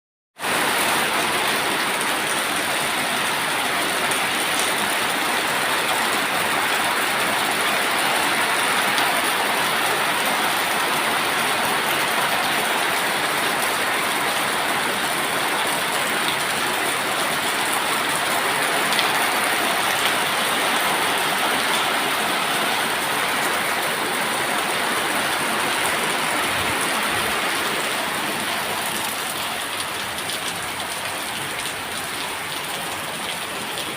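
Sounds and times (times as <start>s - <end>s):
heavy rain falling: 0.4s - 33.9s.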